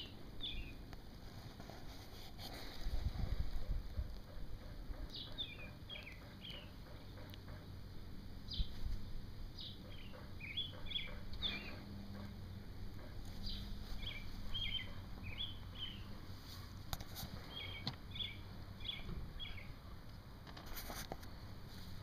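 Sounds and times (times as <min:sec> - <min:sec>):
small birds chirping: 0:00.0 - 0:01.0, 0:03.2 - 0:19.9.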